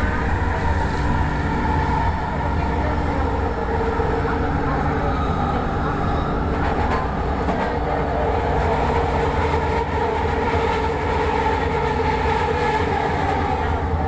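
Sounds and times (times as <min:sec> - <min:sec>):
light-rail train rumble: 0:00.0 - 0:14.0.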